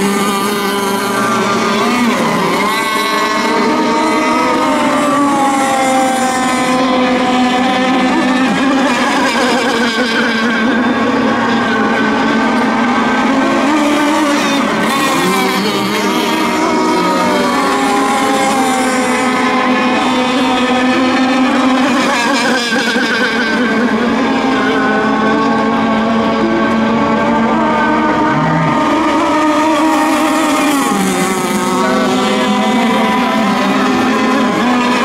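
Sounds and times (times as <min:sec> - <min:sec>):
radio-controlled boat motors whining: 0:00.0 - 0:35.0.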